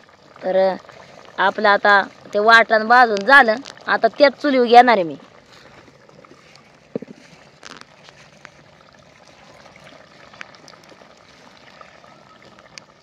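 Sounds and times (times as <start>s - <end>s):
fire crackling: 0.0s - 13.0s
pot bubbling: 0.0s - 13.0s.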